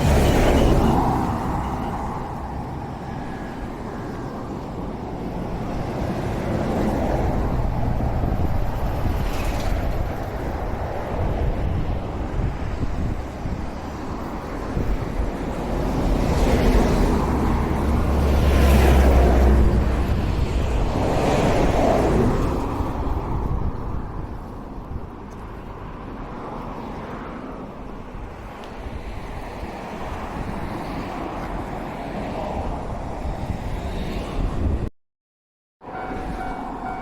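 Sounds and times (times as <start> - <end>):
road vehicles passing: 0.0 - 34.9, 35.8 - 37.0
wind rumbling on microphone: 0.0 - 34.9.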